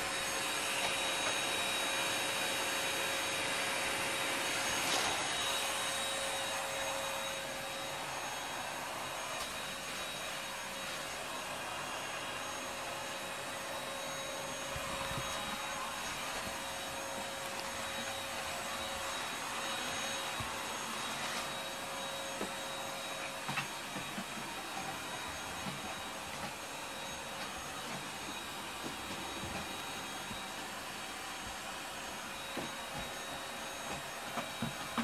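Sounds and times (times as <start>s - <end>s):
faint motor whine: 0.0s - 35.0s
vacuum cleaner running: 0.0s - 35.0s.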